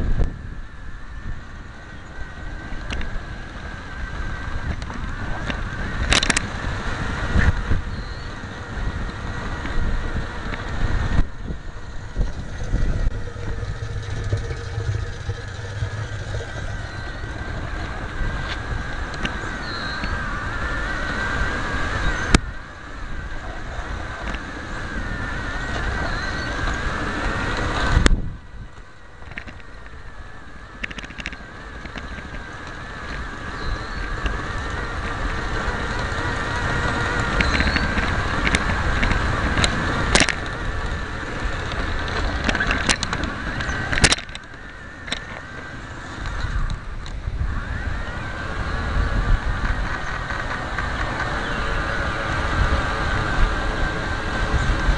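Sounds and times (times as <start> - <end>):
small electric motor whining: 0.0 - 54.9
wheel rumble: 0.0 - 54.9.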